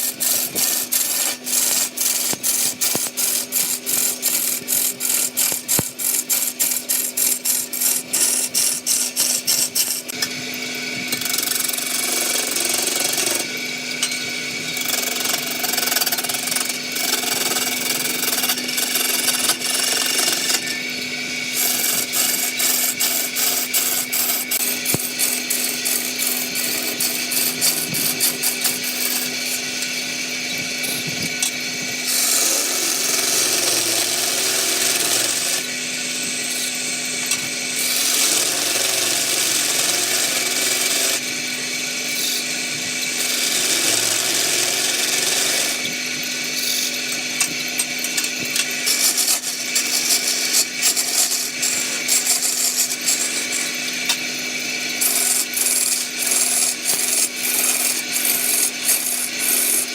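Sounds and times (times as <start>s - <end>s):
lathe motor hum: 0.0s - 59.9s
tool cutting spinning wood: 0.0s - 59.9s.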